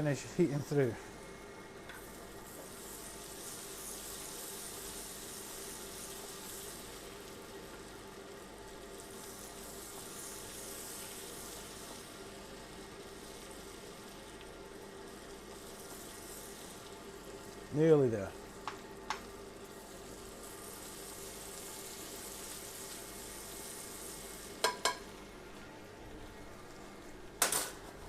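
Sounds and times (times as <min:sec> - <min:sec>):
faint steady hum: 0:00.0 - 0:28.0
vegetables sizzling in butter: 0:00.0 - 0:28.0.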